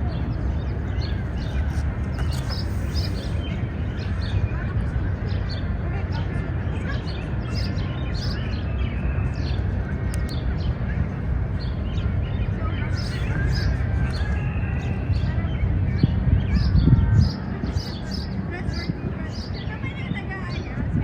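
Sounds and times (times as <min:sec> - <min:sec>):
birds chirping: 0:00.0 - 0:20.9
low rumble of city noise: 0:00.0 - 0:21.0.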